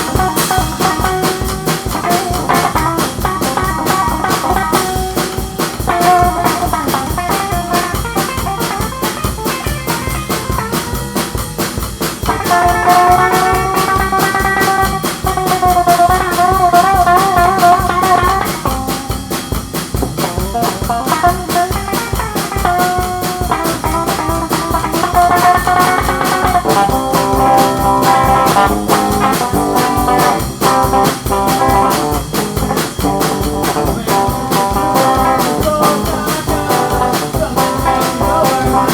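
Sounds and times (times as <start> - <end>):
drums steady beat: 0.0 - 38.9
guitar: 0.0 - 38.9.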